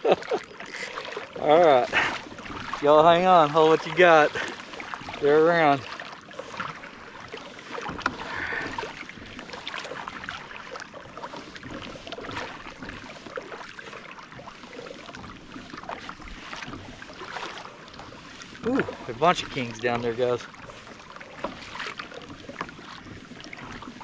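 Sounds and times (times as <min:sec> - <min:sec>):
water rushing along boat hull: 0:00.0 - 0:24.0.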